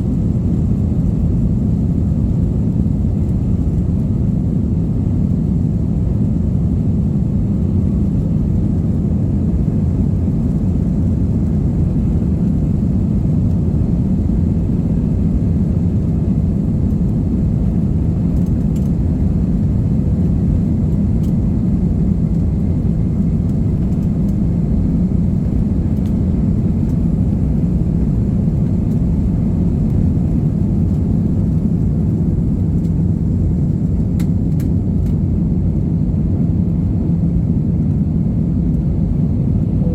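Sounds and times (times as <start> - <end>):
airliner engines rumbling in cabin: 0.0 - 39.9.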